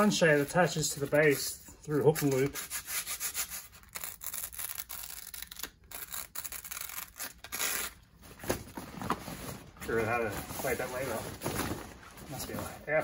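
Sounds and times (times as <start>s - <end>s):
vinyl sheeting crinkling: 0.0s - 2.6s, 4.0s - 13.0s.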